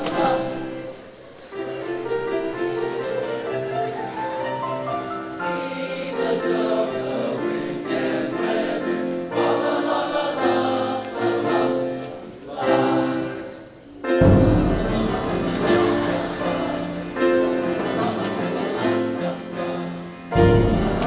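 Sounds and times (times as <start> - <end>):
boys' choir singing: 0.0 - 21.0
piano accompaniment: 0.0 - 21.0.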